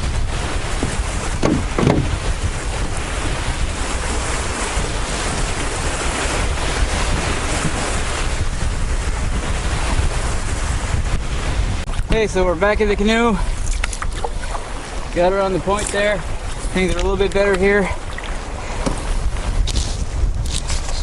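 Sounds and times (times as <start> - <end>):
waves washing: 0.0 - 21.0
wind buffeting microphone: 0.0 - 21.0.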